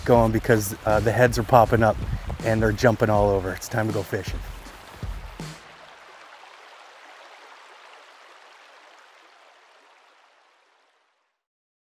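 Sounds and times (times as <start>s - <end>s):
river water rushing: 0.0s - 11.2s.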